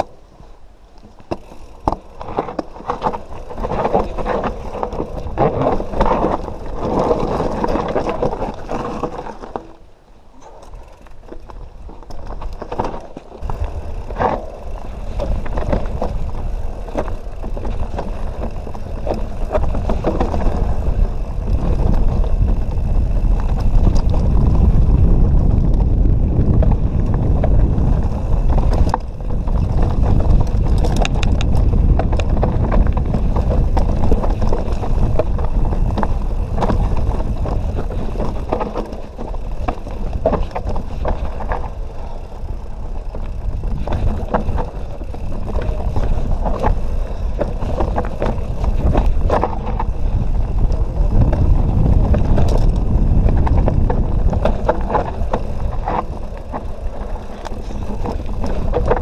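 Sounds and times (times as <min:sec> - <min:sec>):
wind and tyre rumble: 0:00.0 - 0:59.0
bike rattling on rocks: 0:01.0 - 0:59.0.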